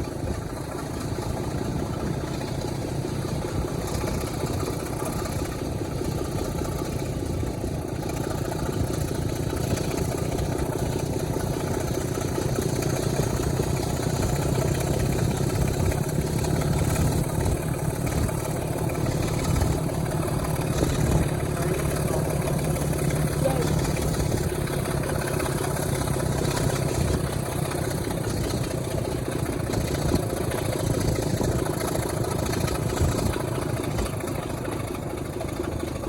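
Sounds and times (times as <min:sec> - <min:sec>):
diesel locomotive engine running: 0:00.0 - 0:36.0.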